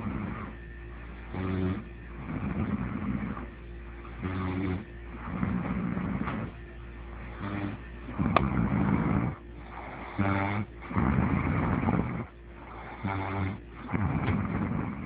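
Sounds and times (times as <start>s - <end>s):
person snoring heavily: 0.0s - 0.6s, 1.2s - 3.5s, 4.1s - 6.6s, 7.3s - 15.0s.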